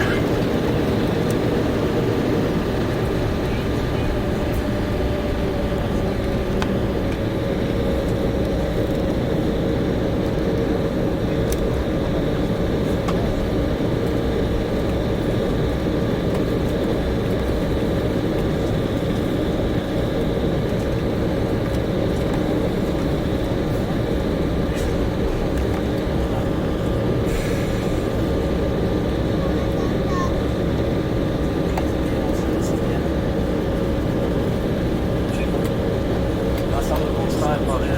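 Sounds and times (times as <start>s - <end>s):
jet engine rumble in cabin: 0.0s - 37.9s
steady whine: 0.0s - 37.9s.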